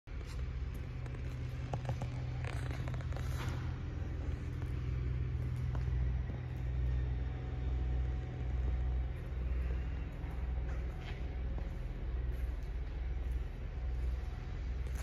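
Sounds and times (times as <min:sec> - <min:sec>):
car engine idling: 0:00.1 - 0:15.0.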